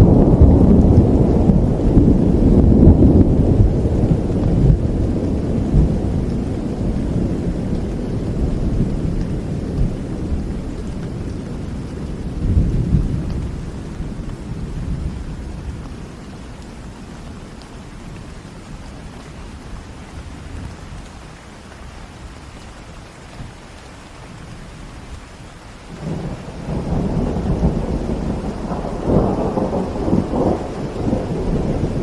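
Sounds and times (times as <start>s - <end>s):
thunder rumbling: 0.0s - 21.1s, 25.9s - 32.0s
steady rain: 0.0s - 32.0s.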